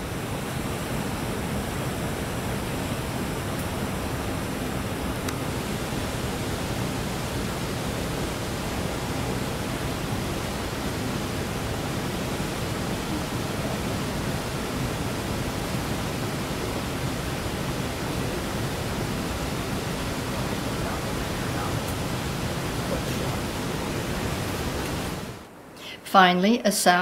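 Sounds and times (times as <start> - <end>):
creek water rushing: 0.0 - 25.8.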